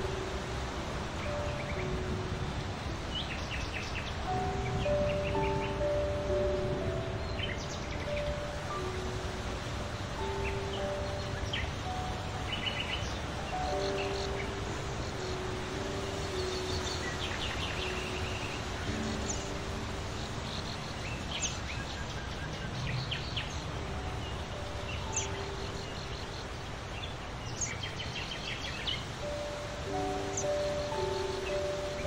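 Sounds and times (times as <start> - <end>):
outdoor background hiss: 0.0 - 32.0
small birds chirping: 1.0 - 32.0.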